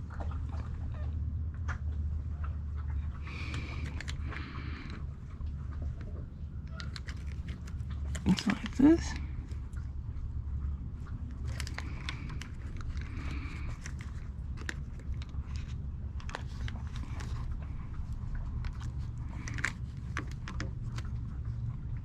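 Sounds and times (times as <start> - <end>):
small clicks and rustles: 0.0 - 22.0
steady low hum: 0.0 - 22.0.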